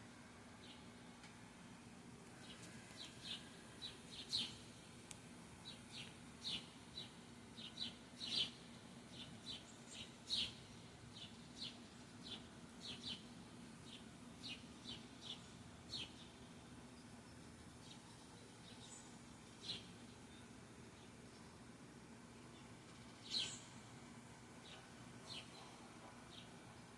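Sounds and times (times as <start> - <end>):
small birds chirping: 0.5 - 1.3, 2.2 - 26.9.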